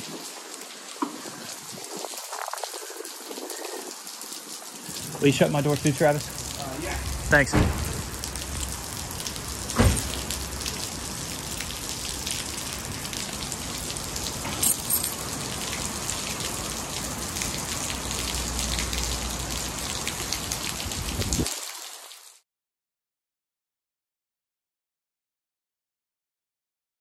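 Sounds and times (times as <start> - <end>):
rain falling on a car: 0.0 - 22.4.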